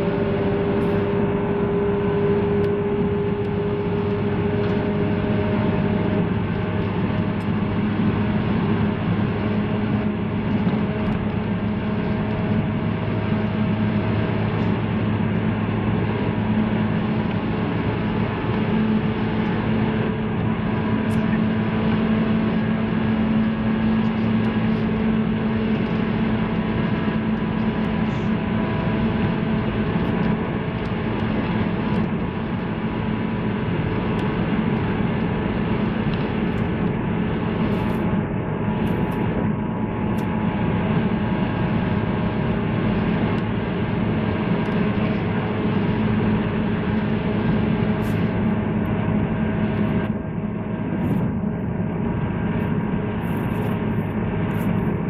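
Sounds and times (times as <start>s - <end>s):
constant low hum: 0.0s - 55.0s
train running rumble: 0.0s - 55.0s.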